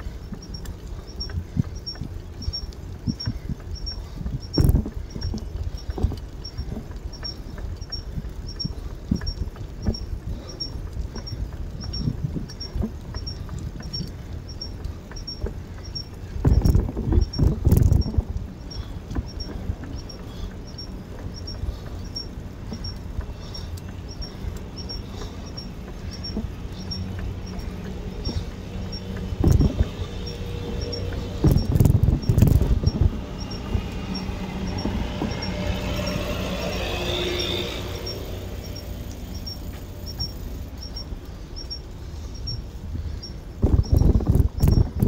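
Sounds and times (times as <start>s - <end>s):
wheels knocking: 0.0s - 41.8s
bicycle tyres rumbling: 0.0s - 45.0s
light ticking: 0.0s - 45.0s.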